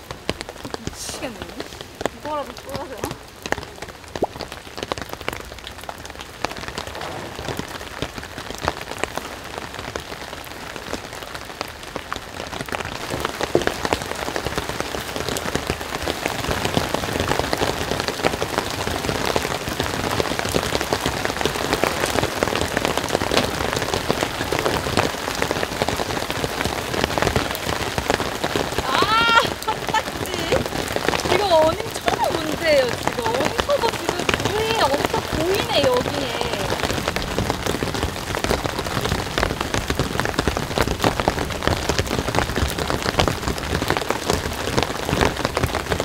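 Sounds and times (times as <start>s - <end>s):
heavy rain on wooden deck: 0.0s - 46.0s.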